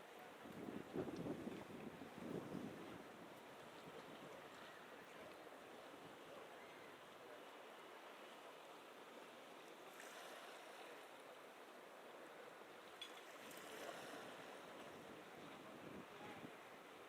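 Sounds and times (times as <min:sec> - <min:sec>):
small waves lapping at shore: 0:00.0 - 0:17.0.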